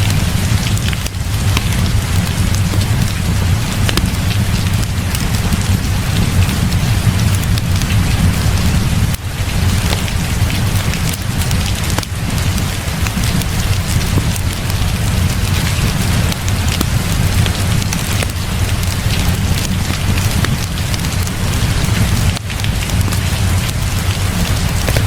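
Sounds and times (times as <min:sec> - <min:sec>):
constant low rumble: 0:00.0 - 0:25.0
heavy rain falling: 0:00.0 - 0:25.0.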